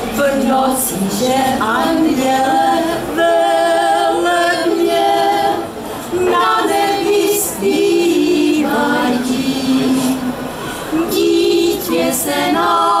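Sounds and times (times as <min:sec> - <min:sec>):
women singing unaccompanied folk song: 0:00.0 - 0:13.0.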